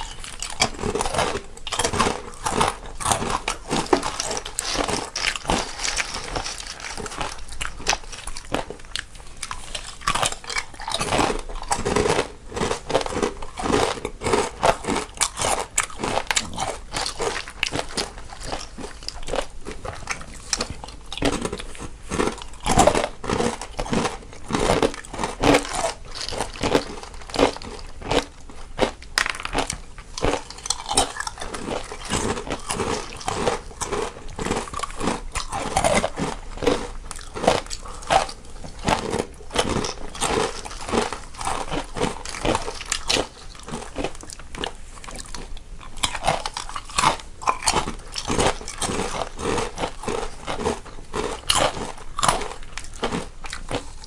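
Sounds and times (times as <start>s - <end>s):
crunching snacks and chewing: 0.0s - 54.0s.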